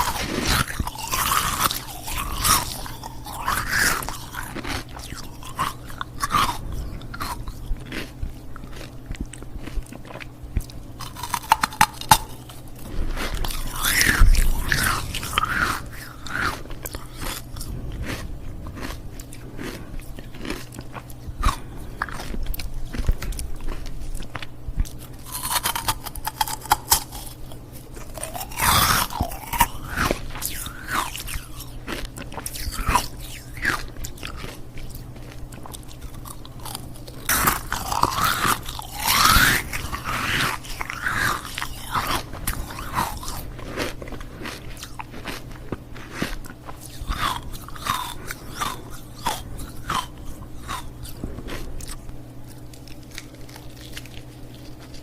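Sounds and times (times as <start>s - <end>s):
ice cubes being chewed: 0.0s - 55.0s.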